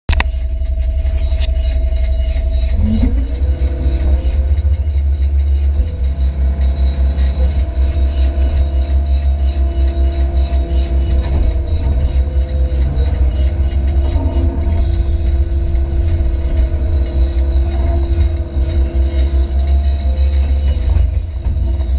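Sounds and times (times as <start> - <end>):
excavator diesel engine: 0.1 - 21.9
hydraulic whine: 0.1 - 21.9.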